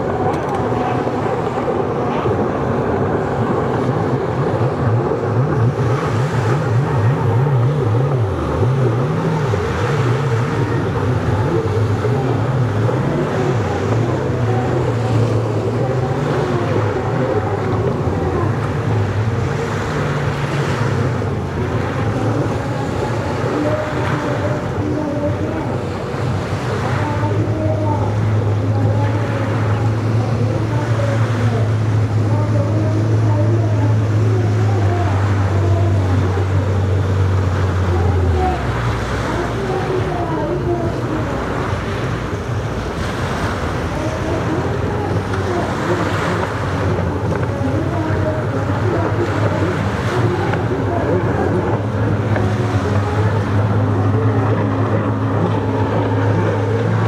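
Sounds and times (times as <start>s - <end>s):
jet ski engines running: 0.0s - 57.0s.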